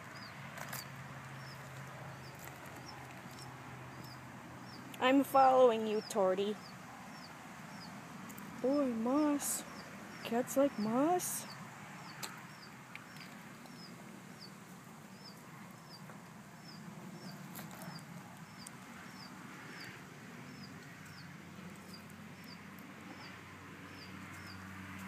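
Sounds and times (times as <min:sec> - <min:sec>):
bird chirping: 0:00.1 - 0:24.7.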